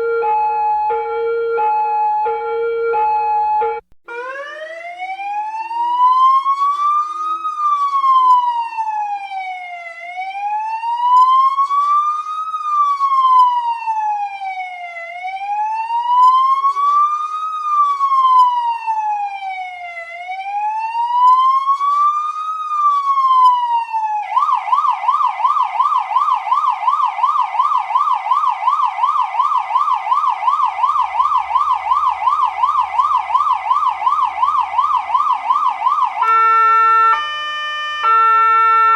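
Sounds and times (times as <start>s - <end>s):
police siren fast yelp: 0.0s - 38.9s
police siren wailing: 0.0s - 38.9s.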